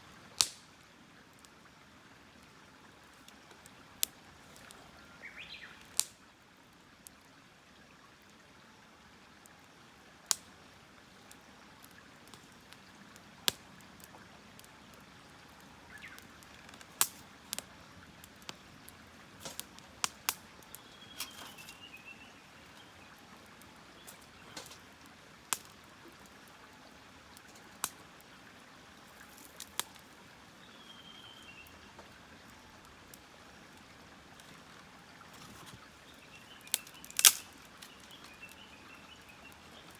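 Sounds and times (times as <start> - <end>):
faint steady hiss: 0.0 - 39.9
campfire crackling and popping: 0.2 - 1.7, 2.3 - 7.2, 9.4 - 39.9.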